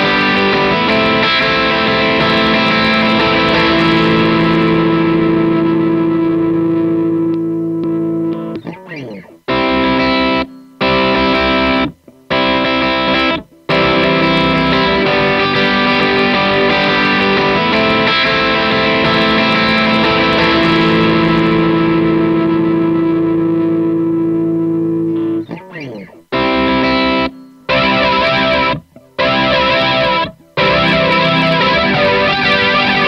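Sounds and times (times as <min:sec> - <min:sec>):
electric guitar chords: 0:00.0 - 0:33.0
guitar slide: 0:00.0 - 0:33.0.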